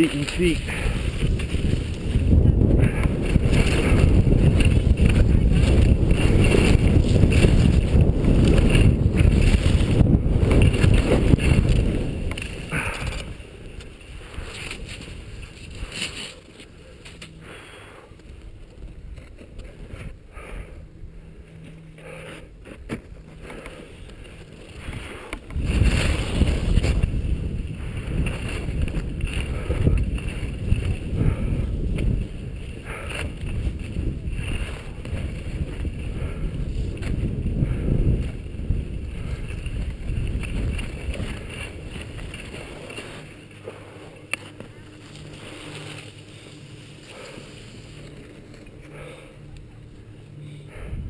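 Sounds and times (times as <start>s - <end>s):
wind buffeting microphone: 0.0s - 16.2s, 23.1s - 51.0s
skis sliding on snow: 0.0s - 17.7s, 23.5s - 49.3s.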